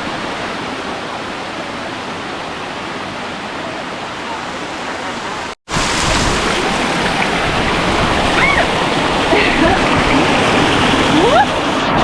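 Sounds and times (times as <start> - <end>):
waterfall rushing water: 0.0 - 12.0.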